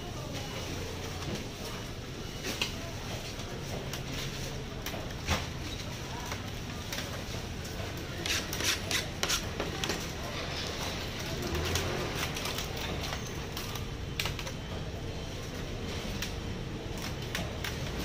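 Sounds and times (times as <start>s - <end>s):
market background hum: 0.0s - 18.0s.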